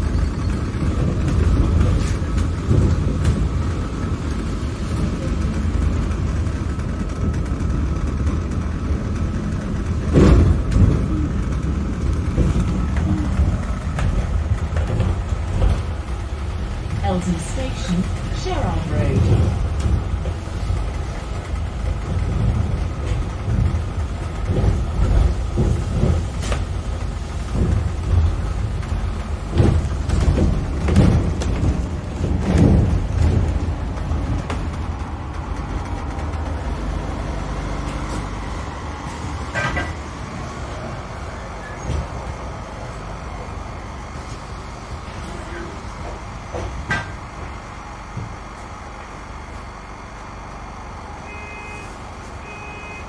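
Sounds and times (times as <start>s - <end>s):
knocks and rattles: 0.0s - 44.3s
bus engine and road rumble: 0.0s - 53.0s.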